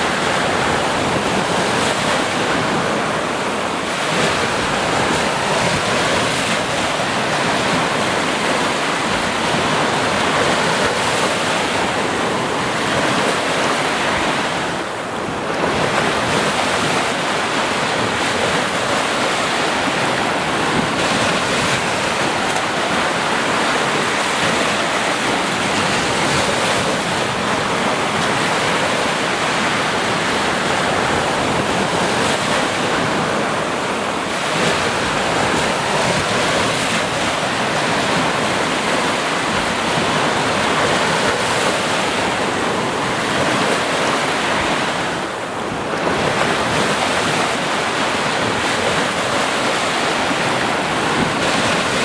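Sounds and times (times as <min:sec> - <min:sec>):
sea waves washing onto beach: 0:00.0 - 0:52.0
wind on microphone: 0:00.0 - 0:52.0.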